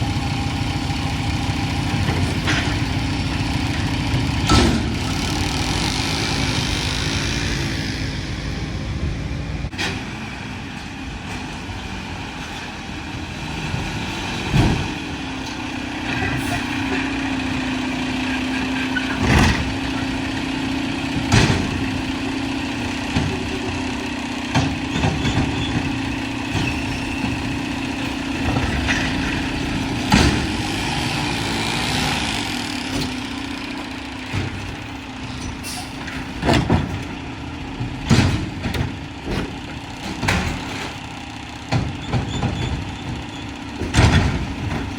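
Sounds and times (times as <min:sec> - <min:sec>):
garbage truck engine and hydraulics: 0:00.0 - 0:44.9.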